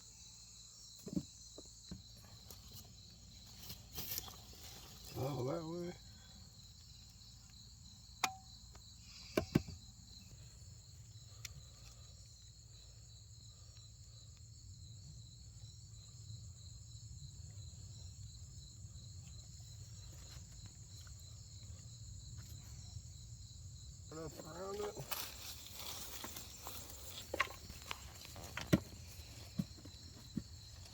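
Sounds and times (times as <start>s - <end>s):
crickets chirring: 0.0s - 30.9s.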